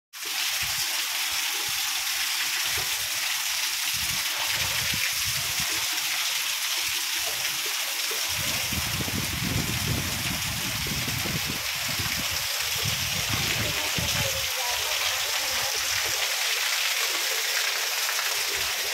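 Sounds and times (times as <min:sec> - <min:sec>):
heavy rain pouring: 0:00.6 - 0:18.9.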